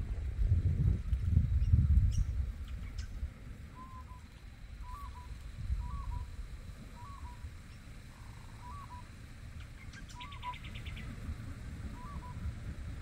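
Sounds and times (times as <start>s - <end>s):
low rumble: 0.0s - 13.0s
birds calling: 1.6s - 12.6s.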